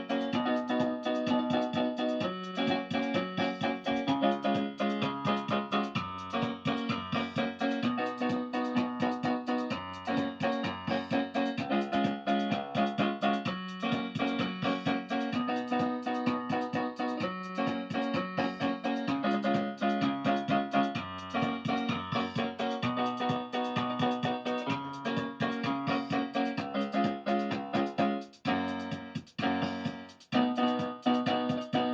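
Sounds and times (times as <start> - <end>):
electronic keyboard music: 0.0 - 31.9.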